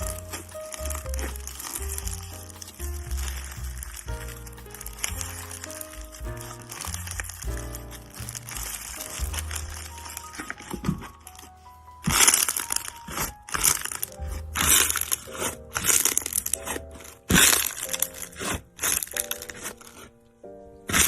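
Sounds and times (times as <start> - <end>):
jazz music: 0.0 - 20.1
crunching crackling sounds: 0.0 - 21.0.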